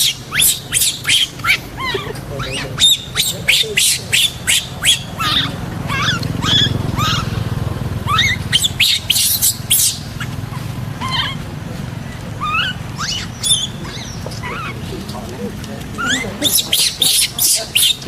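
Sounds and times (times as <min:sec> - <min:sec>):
baby monkey squeaking: 0:00.0 - 0:11.5, 0:12.4 - 0:14.9, 0:16.0 - 0:18.0
low motor hum: 0:00.0 - 0:18.0.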